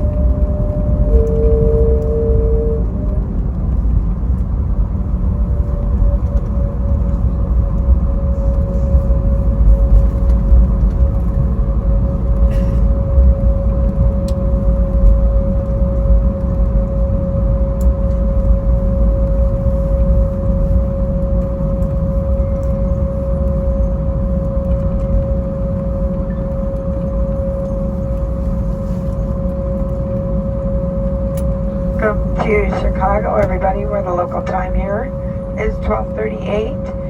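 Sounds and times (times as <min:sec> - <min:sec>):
jet engines low rumble: 0:00.0 - 0:37.0
steady humming tone: 0:00.0 - 0:37.0.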